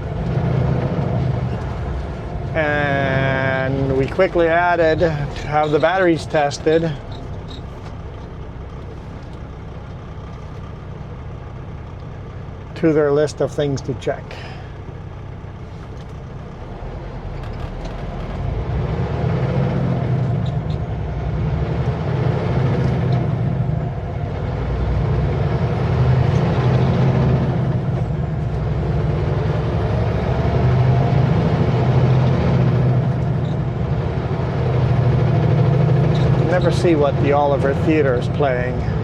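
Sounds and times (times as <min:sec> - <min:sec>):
truck diesel engine rumbling: 0:00.0 - 0:39.0.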